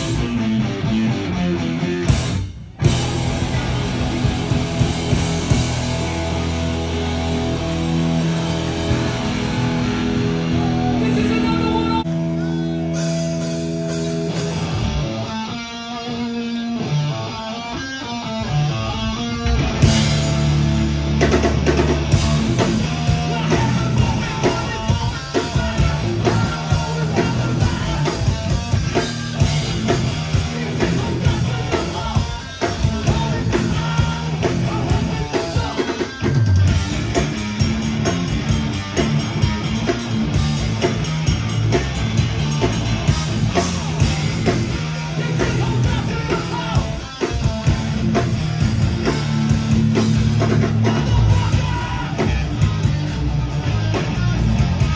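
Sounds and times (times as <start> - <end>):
drum kit: 0.0 - 54.9
electric guitar: 0.0 - 54.9
hardcore band playing live: 0.0 - 54.9.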